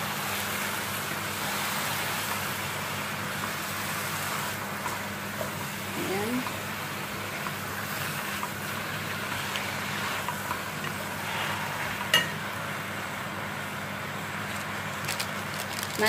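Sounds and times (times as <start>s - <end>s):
spinach sizzling in pot: 0.0s - 16.0s.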